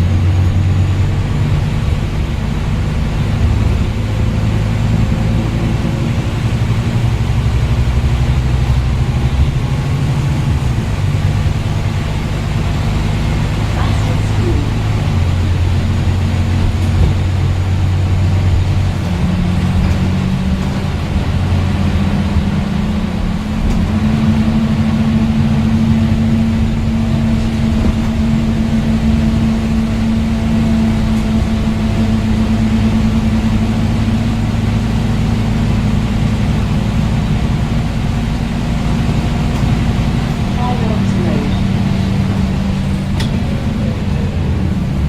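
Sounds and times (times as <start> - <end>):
bus diesel engine running: 0.0 - 45.0.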